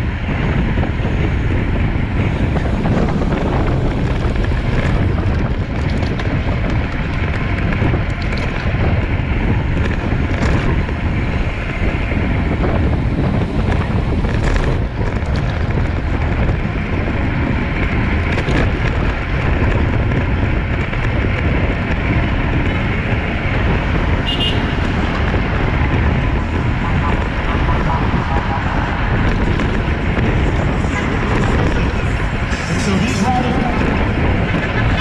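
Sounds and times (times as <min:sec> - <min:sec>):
road and tyre noise: 0:00.0 - 0:35.0
wind rushing over microphone: 0:00.0 - 0:35.0.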